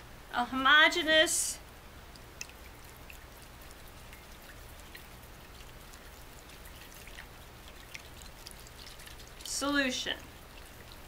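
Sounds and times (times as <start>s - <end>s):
spoon stirring glue in bowl: 2.1s - 11.0s.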